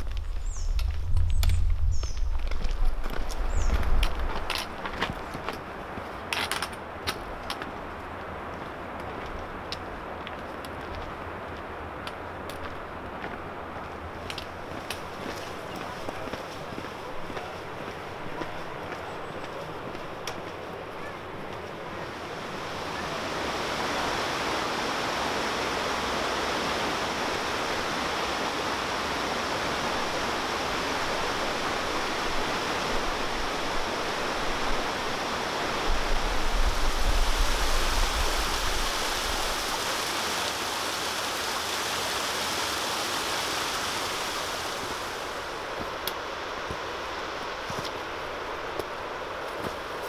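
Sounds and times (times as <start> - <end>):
stream cascading over rocks: 0.0 - 50.0.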